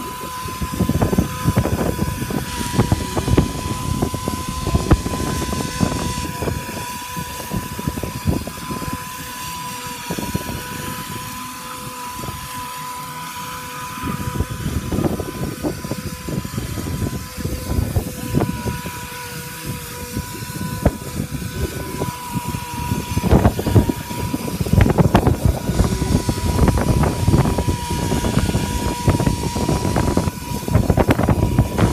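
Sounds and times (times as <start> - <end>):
spray rig whining: 0.0 - 31.9
wind buffeting microphone: 0.0 - 31.9.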